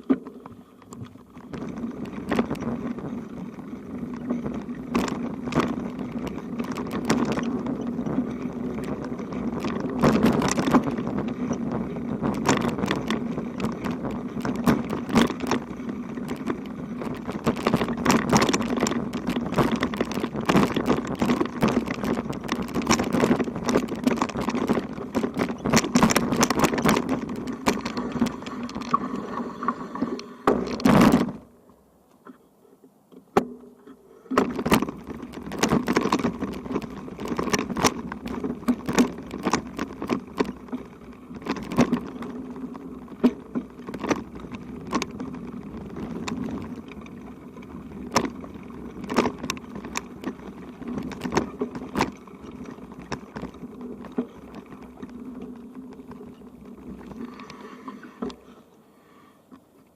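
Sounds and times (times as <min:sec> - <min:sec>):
bicycle rolling on rough road: 0:00.0 - 0:59.9.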